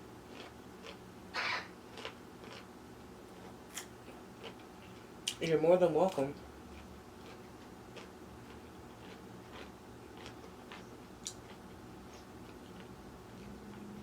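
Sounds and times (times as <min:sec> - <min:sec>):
chewing crunchy salad: 0:00.2 - 0:14.0.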